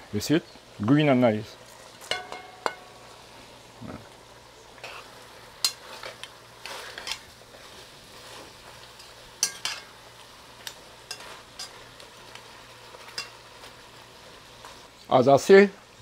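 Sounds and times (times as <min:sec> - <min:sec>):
faint sizzle of meat: 0:00.0 - 0:16.0.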